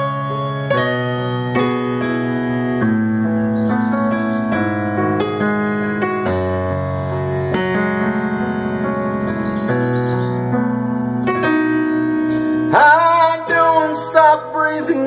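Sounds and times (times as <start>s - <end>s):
keyboard piano ballad: 0.0s - 15.0s.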